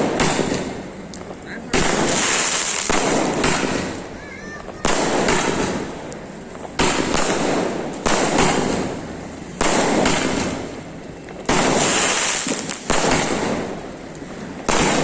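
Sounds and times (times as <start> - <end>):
firework hiss: 0.0 - 10.8, 11.4 - 15.0
firework bangs: 0.0 - 15.0.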